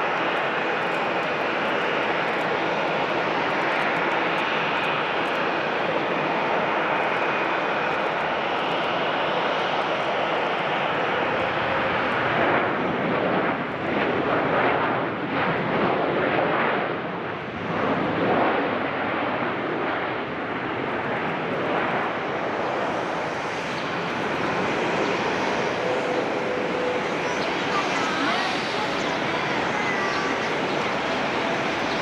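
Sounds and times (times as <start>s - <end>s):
jet engines under reverse thrust: 0.0s - 15.1s, 17.3s - 32.0s.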